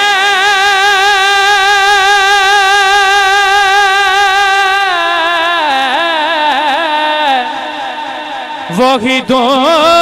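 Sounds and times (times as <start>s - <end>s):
man singing unaccompanied: 0.0s - 10.0s.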